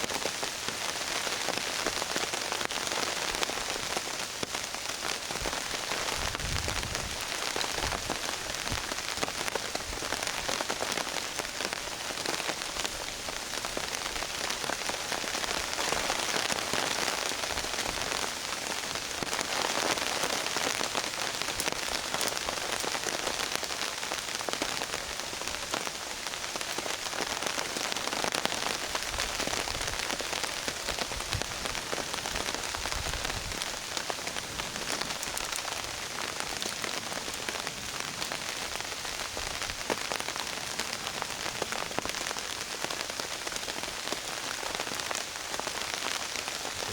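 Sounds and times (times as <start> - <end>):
rain on a tarp: 0.0 - 46.9.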